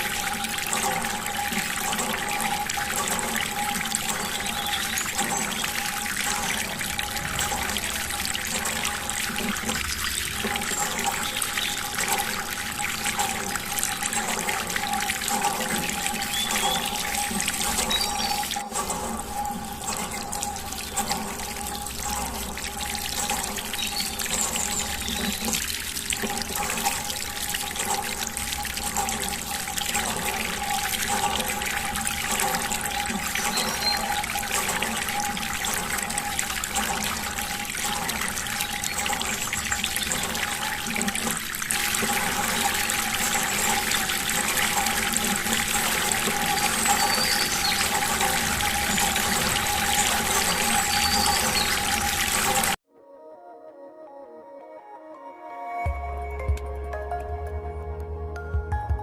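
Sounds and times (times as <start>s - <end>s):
water running and splashing: 0.0s - 52.8s.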